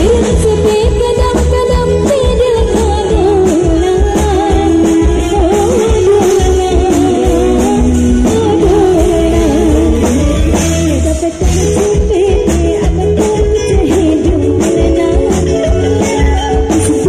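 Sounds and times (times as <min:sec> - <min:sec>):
drums: 0:00.0 - 0:17.0
electric bass: 0:00.0 - 0:17.0
woman singing through a microphone: 0:00.0 - 0:17.0.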